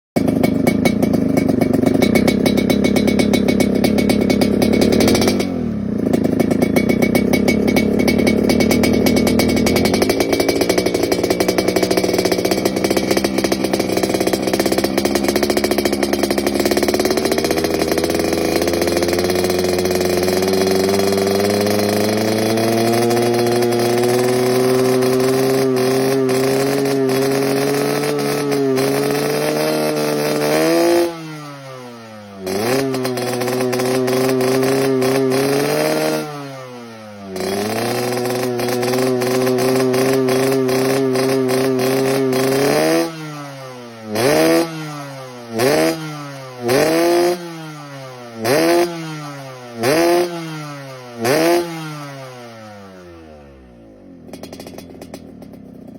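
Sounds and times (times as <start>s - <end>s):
two-stroke motorcycle engine revving: 0.1s - 55.9s.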